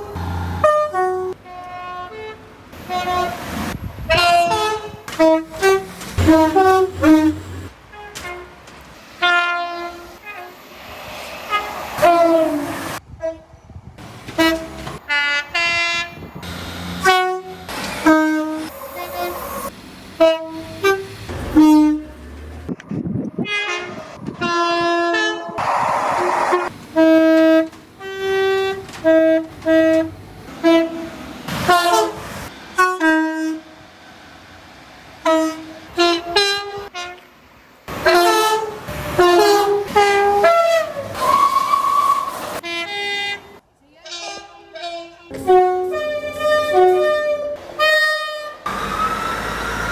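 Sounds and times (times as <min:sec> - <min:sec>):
train horn blasts: 0:00.0 - 0:08.6, 0:09.2 - 0:10.6, 0:11.4 - 0:13.6, 0:14.3 - 0:16.4, 0:17.0 - 0:22.3, 0:23.4 - 0:33.8, 0:35.2 - 0:37.2, 0:37.9 - 0:49.8
train running noise: 0:02.6 - 0:42.7.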